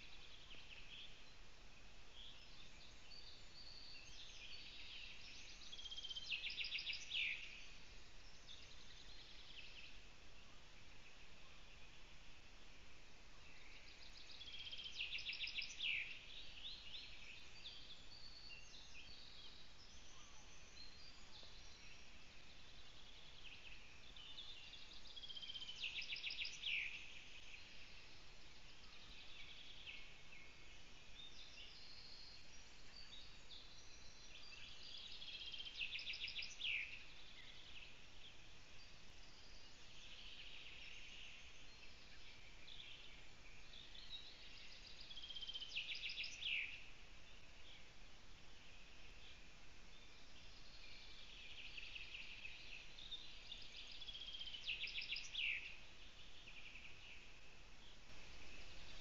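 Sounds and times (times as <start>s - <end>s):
forest songbirds singing: 0.0s - 59.0s.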